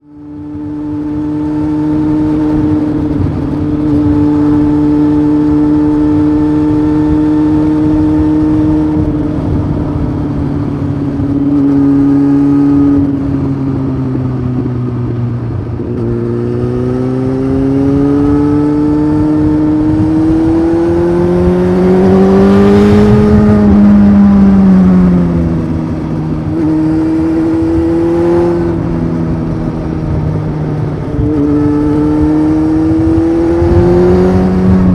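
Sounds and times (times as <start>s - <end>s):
motorcycle engine riding on road: 0.0s - 34.9s.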